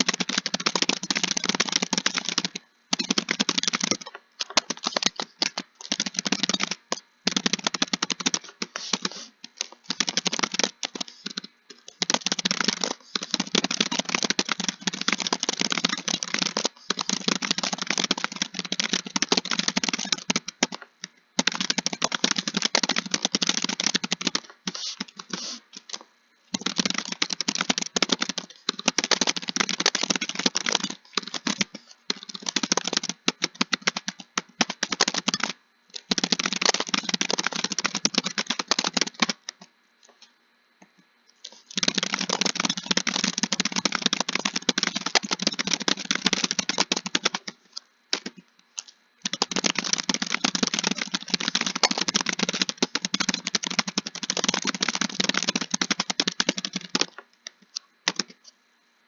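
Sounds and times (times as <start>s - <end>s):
fast keyboard typing: 0.0s - 39.7s, 41.4s - 58.5s.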